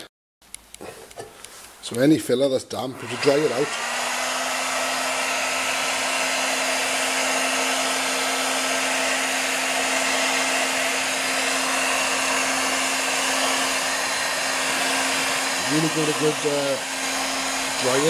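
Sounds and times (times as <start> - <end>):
hot air gun blowing: 3.0 - 18.0.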